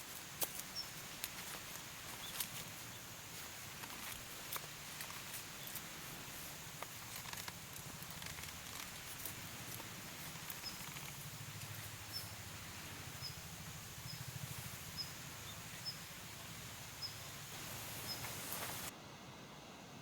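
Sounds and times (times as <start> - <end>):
faint crackles: 0.0 - 18.9.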